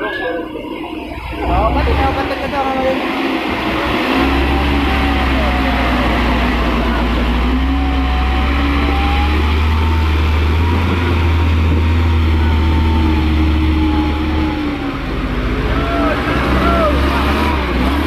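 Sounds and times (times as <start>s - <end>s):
diesel engine drone: 0.0s - 18.0s
wavering engine whine: 0.0s - 18.0s.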